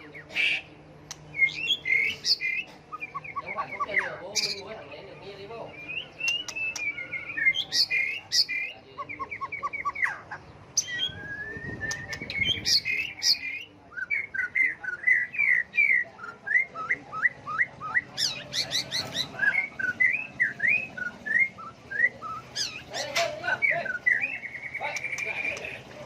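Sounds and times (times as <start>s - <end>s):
bird singing whistled phrases: 1.3s - 4.6s, 5.7s - 10.1s, 10.8s - 25.7s.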